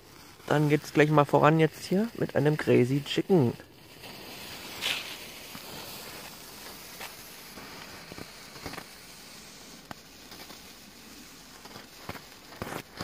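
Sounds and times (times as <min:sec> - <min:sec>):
firework fountain hissing: 0:00.0 - 0:13.0
small crackles and ticks: 0:00.0 - 0:13.0.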